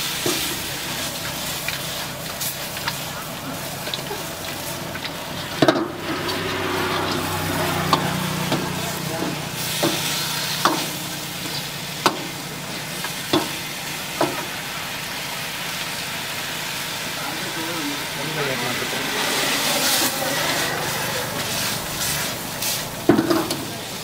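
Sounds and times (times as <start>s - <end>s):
food sizzling in a metal pan: 0.0s - 24.0s.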